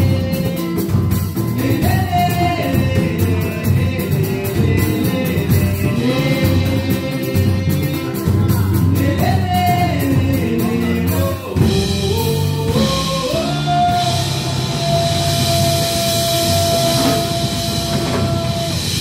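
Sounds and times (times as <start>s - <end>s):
male singer singing: 0.0s - 18.8s
drum kit: 0.0s - 19.0s
guitar: 0.0s - 19.0s
hand percussion: 0.0s - 19.0s.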